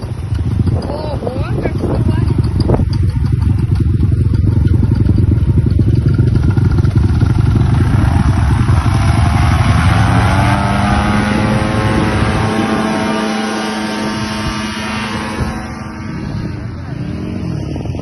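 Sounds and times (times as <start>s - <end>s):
motorcycle engine throbbing and speeding up: 0.0s - 18.0s.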